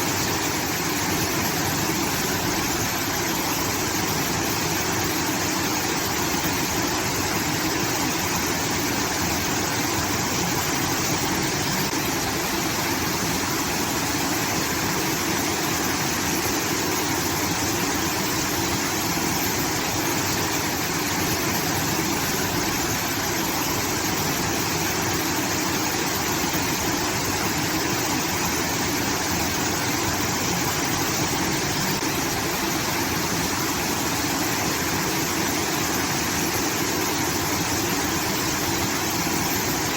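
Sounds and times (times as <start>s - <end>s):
water pouring steadily: 0.0s - 39.9s.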